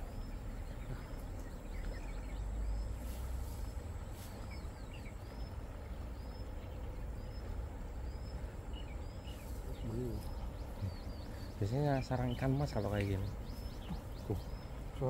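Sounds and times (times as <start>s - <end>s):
bird chirping: 0.0s - 15.0s
steady low rumble: 0.0s - 15.0s.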